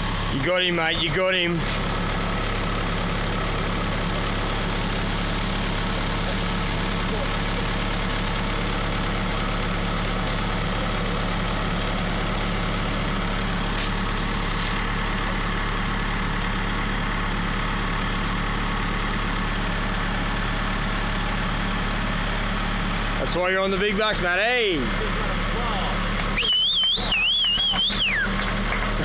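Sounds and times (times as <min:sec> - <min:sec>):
forklift engine idling: 0:00.0 - 0:29.0.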